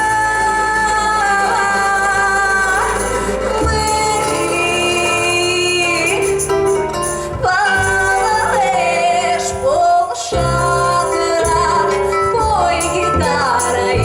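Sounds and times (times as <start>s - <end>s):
instrumental accompaniment: 0.0s - 14.0s
person singing: 0.0s - 14.0s.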